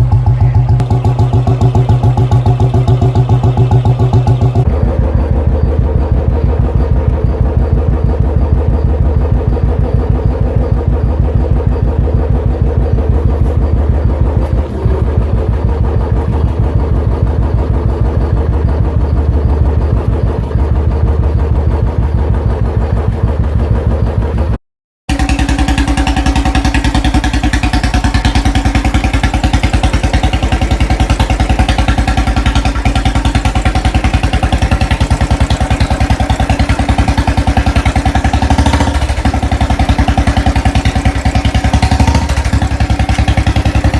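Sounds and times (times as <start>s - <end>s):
motorcycle engine thumping: 0.0s - 43.9s.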